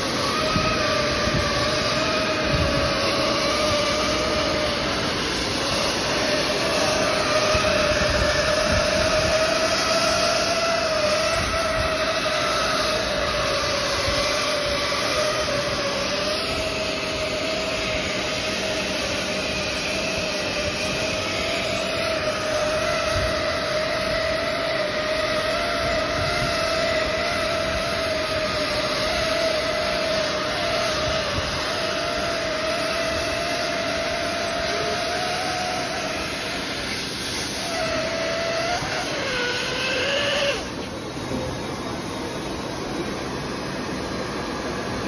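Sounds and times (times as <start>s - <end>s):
welding machine whine: 0.0s - 45.0s.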